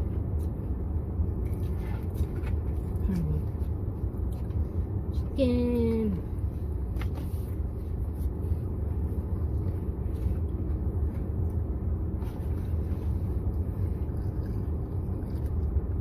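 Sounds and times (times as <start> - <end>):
car idling inside cabin: 0.0 - 16.0.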